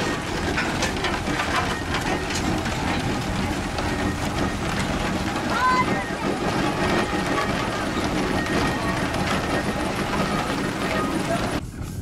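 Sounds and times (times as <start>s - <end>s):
wagon wheels rumbling: 0.0s - 11.6s
wheel and timber clacks: 0.0s - 11.6s.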